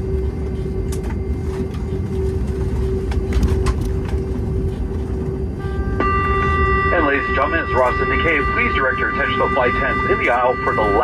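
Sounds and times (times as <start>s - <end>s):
aircraft cabin drone: 0.0s - 11.0s.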